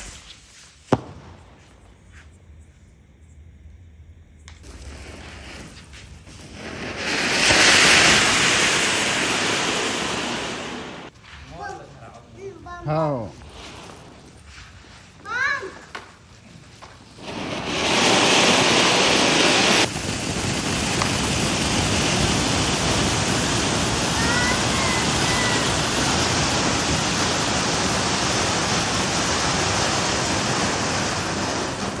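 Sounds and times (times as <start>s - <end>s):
firework hissing: 0.0s - 2.4s, 4.5s - 32.0s.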